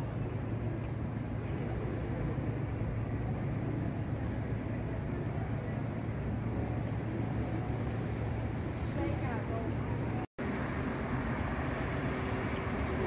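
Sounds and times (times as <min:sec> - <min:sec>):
constant hum: 0:00.0 - 0:13.0
low engine-like rumble: 0:00.0 - 0:13.0.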